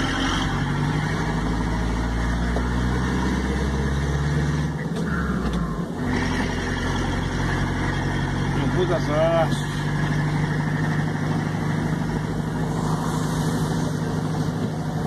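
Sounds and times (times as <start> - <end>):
road noise: 0.0 - 15.0
vehicle engine from inside cabin: 0.0 - 15.0.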